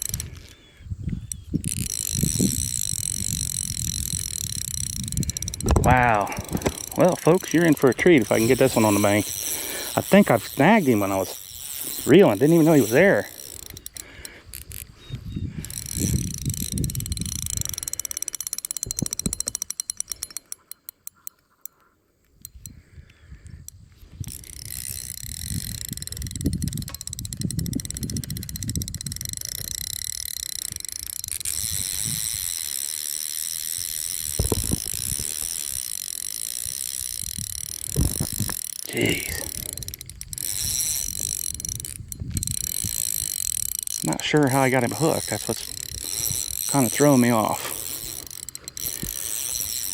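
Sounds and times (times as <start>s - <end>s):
fishing reel drag clicking: 0.0s - 49.9s
high reel buzz: 0.0s - 49.9s.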